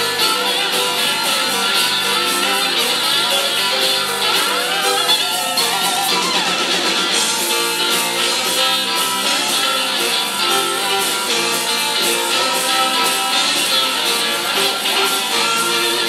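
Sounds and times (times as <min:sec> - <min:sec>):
blues band playing: 0:00.0 - 0:16.0
electric guitar solo: 0:00.0 - 0:16.0.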